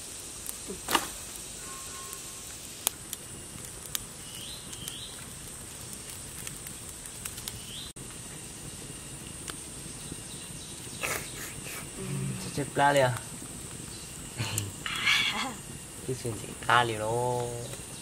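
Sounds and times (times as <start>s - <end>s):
campfire crackling and popping: 0.0s - 18.0s
high-pitched background hiss: 0.0s - 18.0s.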